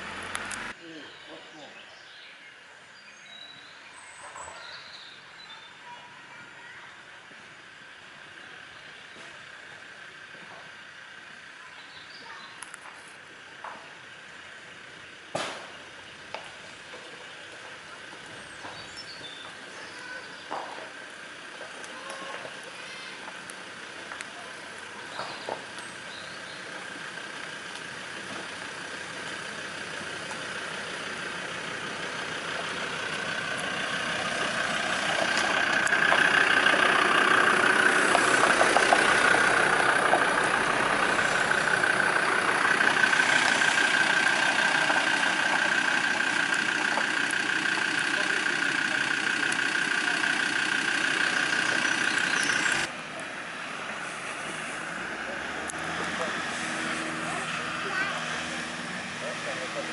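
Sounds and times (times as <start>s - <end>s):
van engine passing: 0.0s - 3.0s, 3.6s - 59.9s.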